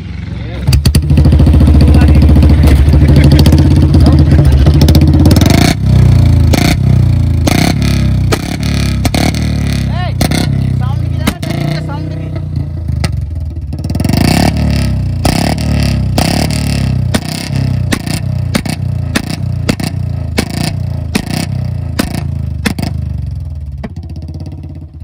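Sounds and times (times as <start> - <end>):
motorcycle engine revving: 0.0 - 25.0
exhaust backfire pops: 0.6 - 25.0.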